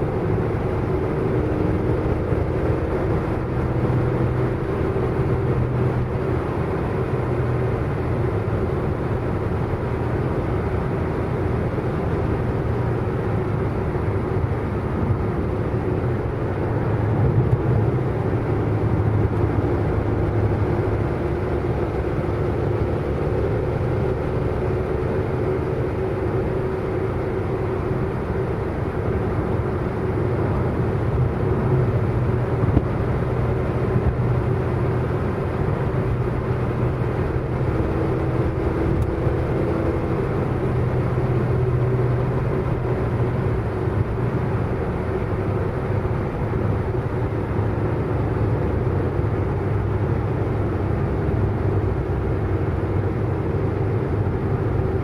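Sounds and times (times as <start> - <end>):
car engine drone: 0.0 - 55.0
road noise: 0.0 - 55.0.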